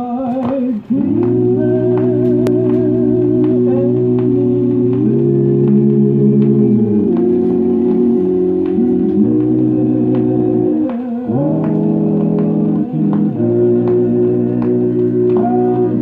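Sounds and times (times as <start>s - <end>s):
organ playing slow chords: 0.9s - 16.0s.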